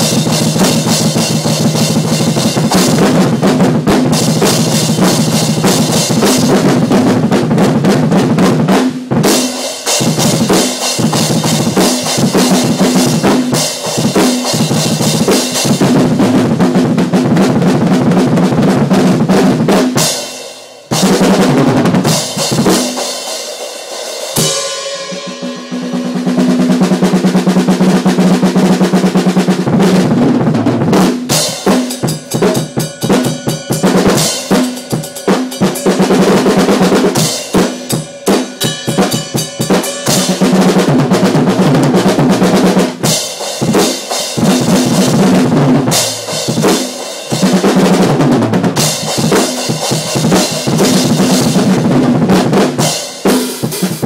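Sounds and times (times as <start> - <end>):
drum kit solo: 0.0 - 54.0.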